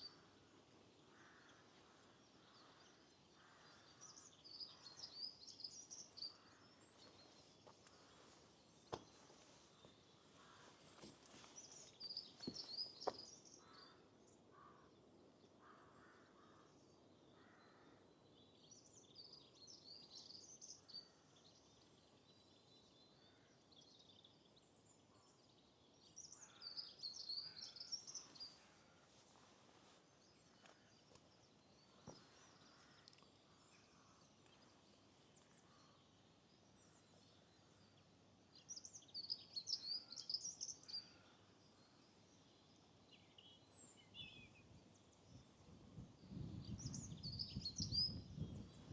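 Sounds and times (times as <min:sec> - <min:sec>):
soft outdoor background: 0:00.0 - 0:48.9
songbirds twittering: 0:00.0 - 0:48.9.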